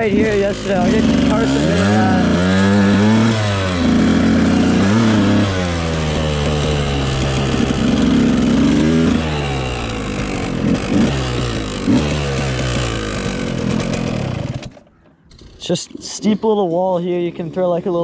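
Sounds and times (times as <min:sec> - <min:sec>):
dirt bike engine revving: 0:00.0 - 0:16.6.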